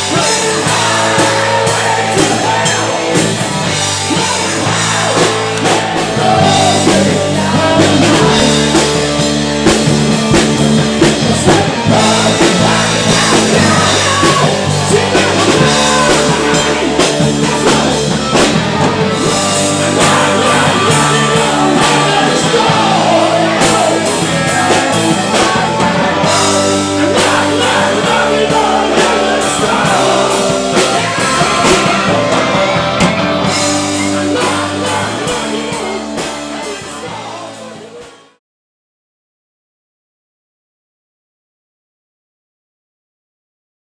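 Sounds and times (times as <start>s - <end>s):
person singing lead vocal: 0.0s - 10.4s, 11.0s - 38.4s
drum kit: 0.0s - 38.4s
rock band playing live: 0.0s - 38.4s.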